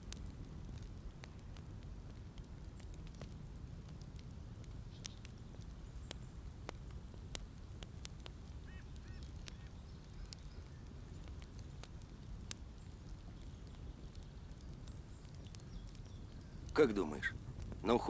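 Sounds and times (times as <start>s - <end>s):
campfire crackling: 0.0s - 18.0s
low outdoor rumble: 0.0s - 18.0s.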